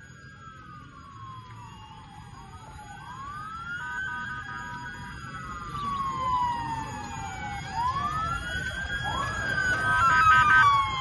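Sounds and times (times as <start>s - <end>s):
emergency vehicle sirens wailing: 0.0s - 11.0s.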